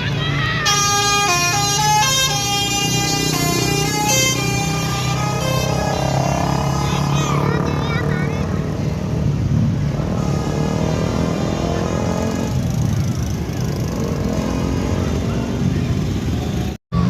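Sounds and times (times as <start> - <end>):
diesel bus engine drone: 0.0 - 17.0.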